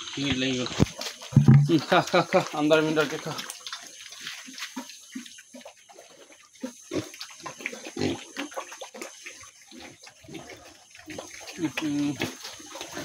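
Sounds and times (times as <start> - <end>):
pigs slurping and smacking: 0.0 - 13.0.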